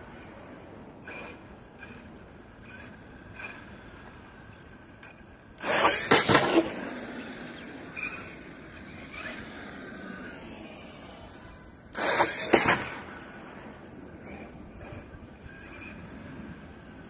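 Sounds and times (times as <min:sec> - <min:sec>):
rc truck motor and tyre noise: 0:00.0 - 0:17.0.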